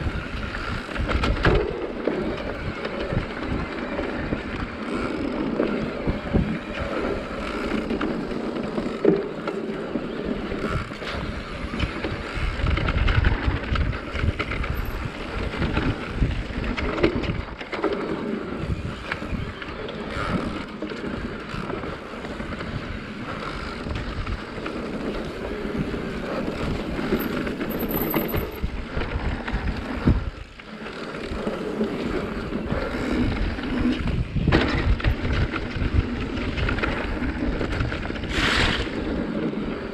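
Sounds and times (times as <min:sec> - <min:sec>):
bike rattling and knocking: 0:00.0 - 0:39.9
tyres rolling over dirt trail: 0:00.0 - 0:39.9
wind buffeting microphone: 0:00.0 - 0:39.9.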